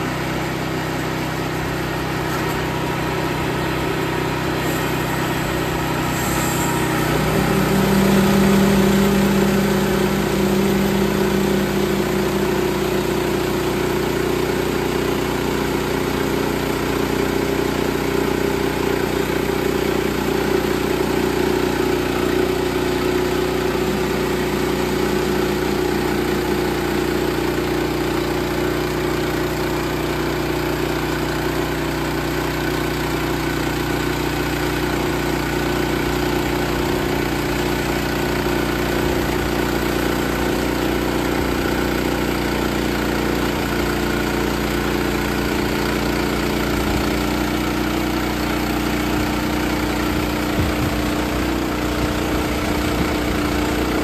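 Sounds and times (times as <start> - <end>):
gasoline engine running: 0.0 - 54.0.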